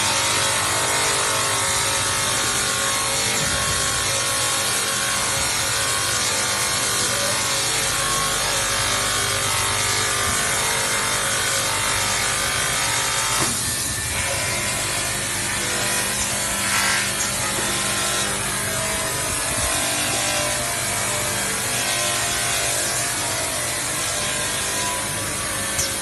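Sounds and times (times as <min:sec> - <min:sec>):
machine hum: 0:00.0 - 0:26.0
sanding machine grinding metal: 0:00.0 - 0:26.0.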